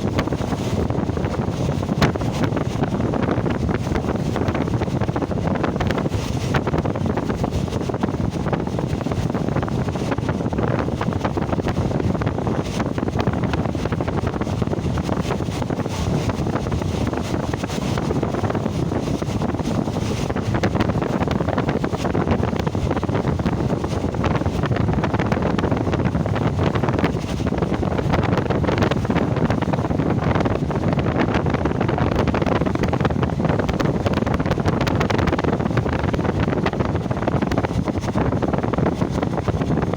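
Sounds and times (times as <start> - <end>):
moving train: 0.0 - 39.9
wind buffeting microphone: 0.0 - 39.9.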